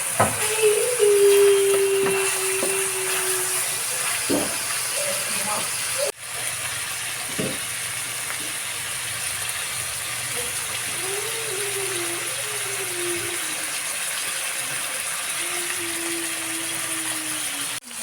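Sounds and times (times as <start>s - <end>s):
pork sizzling in hot oil: 0.0s - 18.0s.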